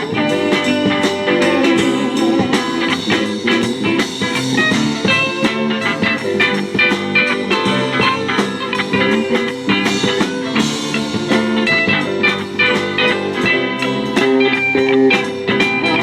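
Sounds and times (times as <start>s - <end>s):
live pop-rock band instrumental: 0.0s - 16.0s.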